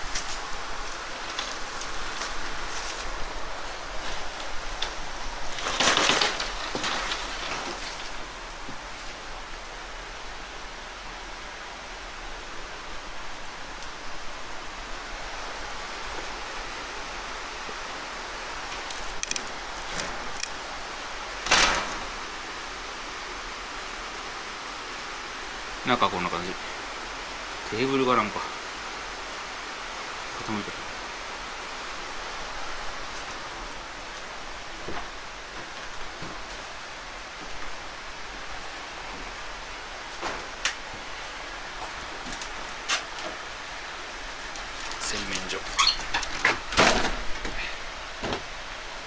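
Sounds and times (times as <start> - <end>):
mountain stream rushing: 0.0 - 49.0.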